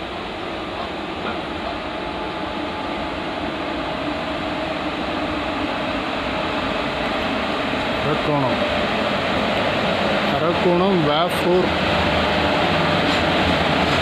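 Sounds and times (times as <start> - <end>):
train approaching rumble: 0.0 - 14.0.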